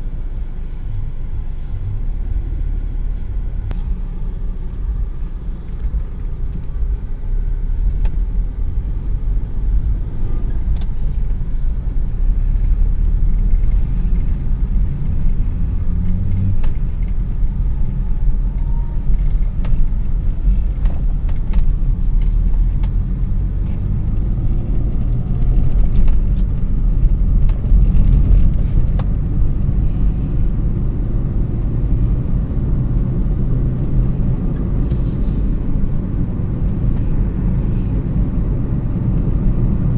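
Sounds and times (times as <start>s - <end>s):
road vehicle rumbling: 0.0s - 39.9s.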